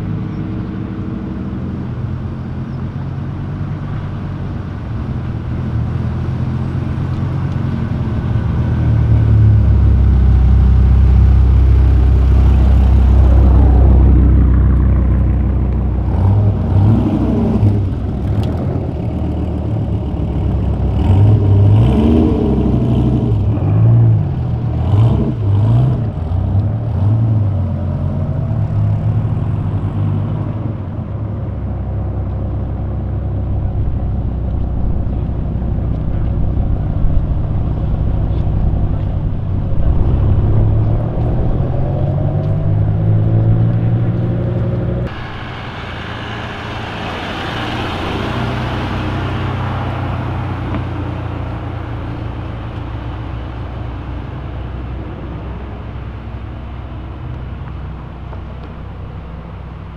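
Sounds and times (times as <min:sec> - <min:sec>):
car engines accelerating: 0:00.0 - 0:59.9
car passing with tyre noise: 0:00.0 - 0:59.9.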